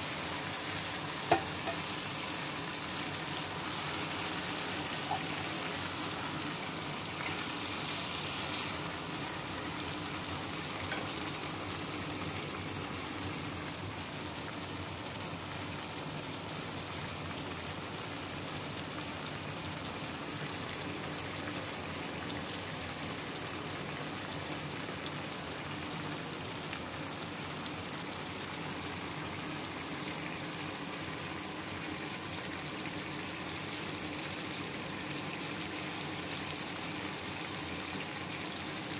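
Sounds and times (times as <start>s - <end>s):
sauce sizzling in a frying pan: 0.0s - 38.9s.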